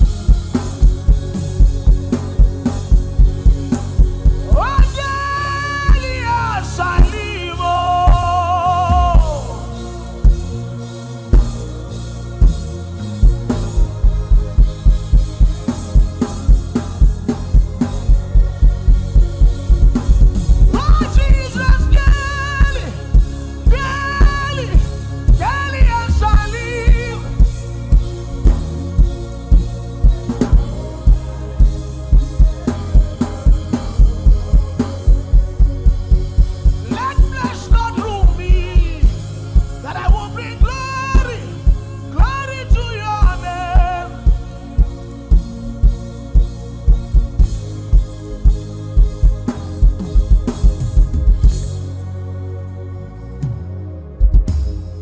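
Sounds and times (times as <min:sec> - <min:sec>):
drum kit steady beat: 0:00.0 - 0:52.0, 0:54.2 - 0:55.0
gospel band playing: 0:00.0 - 0:55.0.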